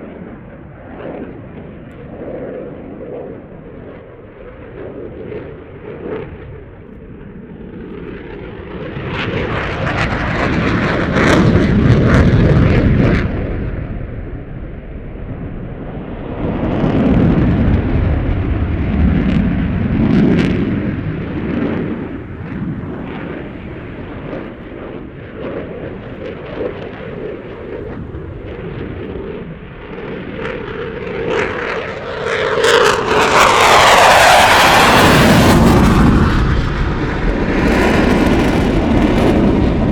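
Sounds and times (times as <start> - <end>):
aircraft flying past: 0.0 - 39.9.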